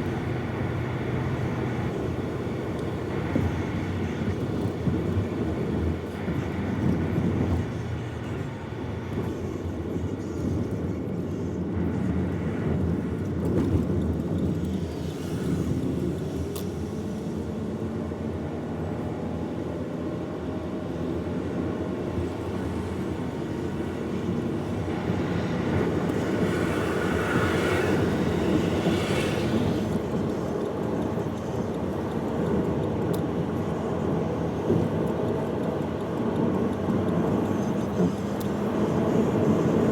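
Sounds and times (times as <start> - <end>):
moving vehicle rumble: 0.0 - 39.9.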